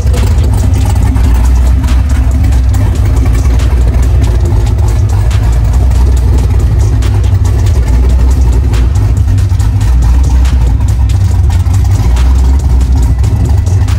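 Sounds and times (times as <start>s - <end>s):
car engine idling loudly: 0.0s - 13.9s.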